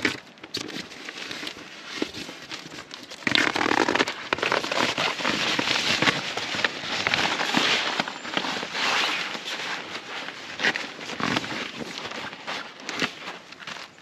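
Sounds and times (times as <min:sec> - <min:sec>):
nylon fabric rustling: 0:01.0 - 0:14.0.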